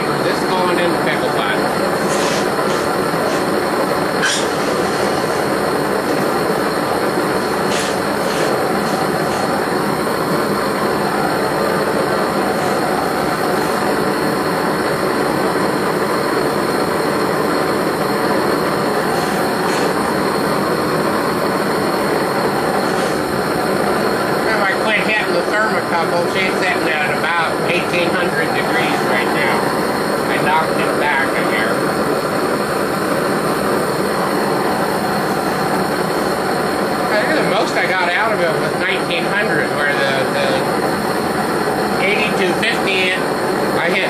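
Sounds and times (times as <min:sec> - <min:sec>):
torch flame rushing: 0:00.0 - 0:44.0.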